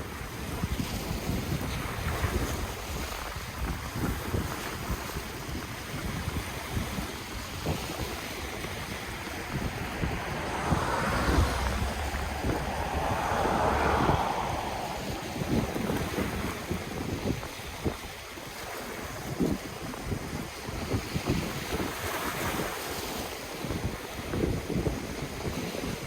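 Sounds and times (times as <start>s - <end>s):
ocean waves on shore: 0.0s - 25.6s
wind buffeting microphone: 0.0s - 26.0s.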